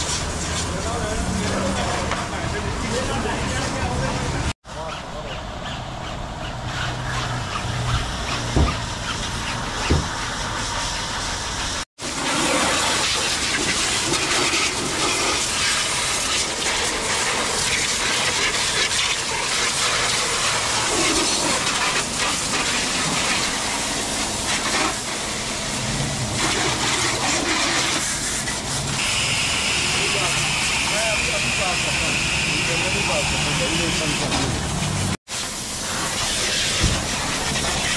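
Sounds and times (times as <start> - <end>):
pressure washer spraying car: 0.0 - 37.9.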